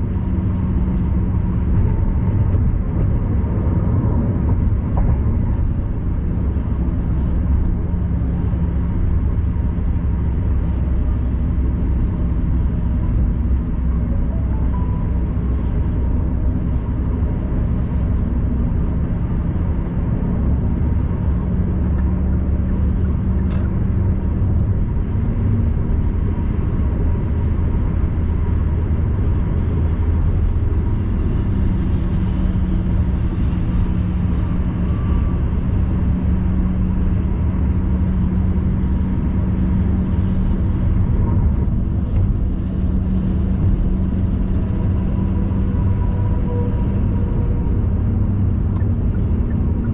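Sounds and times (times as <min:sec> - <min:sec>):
car tyres and engine rumble: 0:00.0 - 0:49.9.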